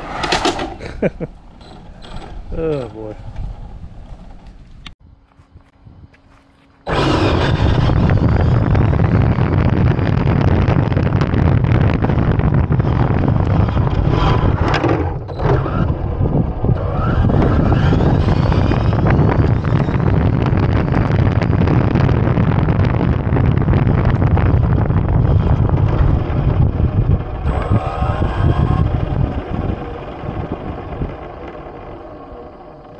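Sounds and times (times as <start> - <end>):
wind rumble on microphone: 1.9 - 6.2, 6.9 - 32.9
electric motor whine: 6.0 - 32.9.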